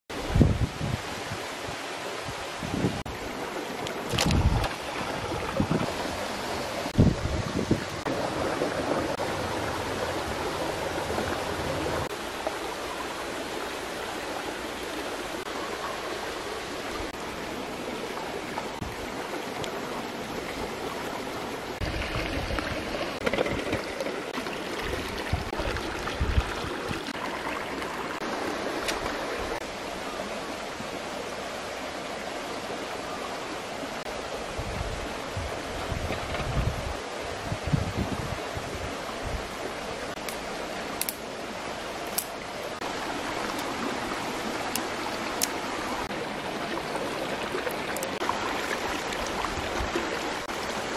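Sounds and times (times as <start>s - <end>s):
water rushing over rocks: 0.1s - 50.9s.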